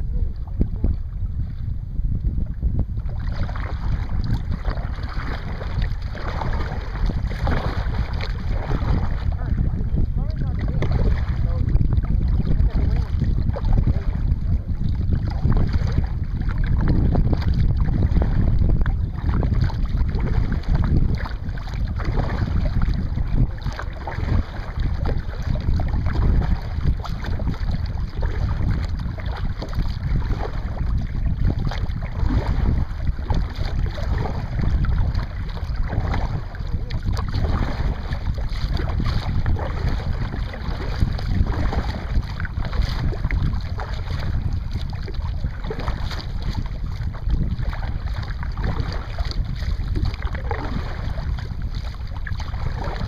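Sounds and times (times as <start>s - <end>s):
water lapping around kayak: 0.0s - 53.0s
wind rumbling on microphone: 0.0s - 53.0s.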